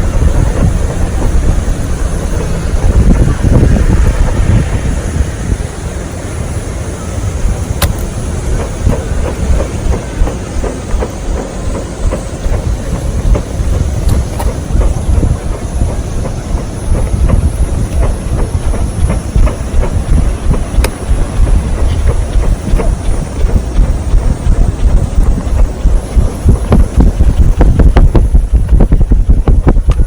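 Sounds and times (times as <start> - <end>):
low fire rumble: 0.0 - 30.0.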